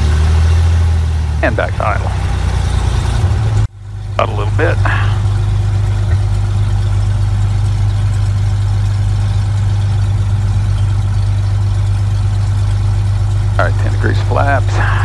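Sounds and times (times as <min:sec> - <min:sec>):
propeller plane engine idling: 0:00.0 - 0:15.0.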